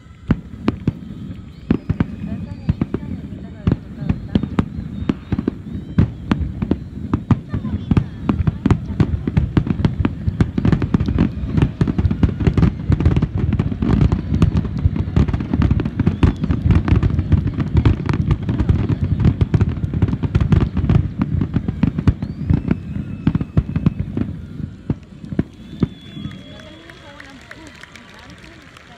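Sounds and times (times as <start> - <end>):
fireworks exploding: 0.0 - 28.9.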